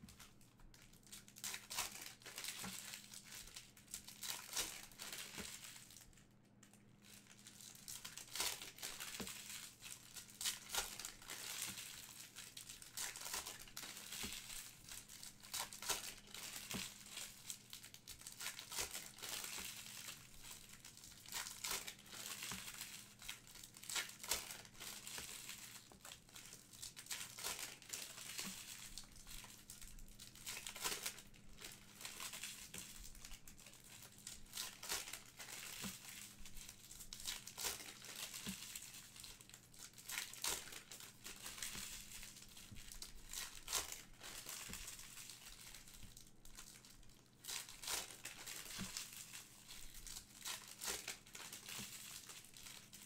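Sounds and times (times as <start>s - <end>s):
card pack wrappers crinkling: 0.0s - 53.0s.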